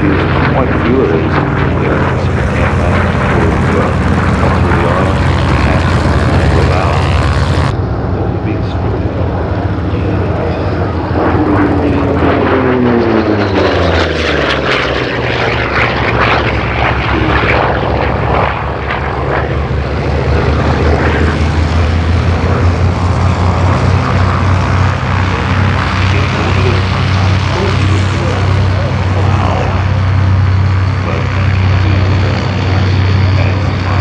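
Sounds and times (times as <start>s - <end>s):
aircraft engine drone: 0.0s - 34.0s.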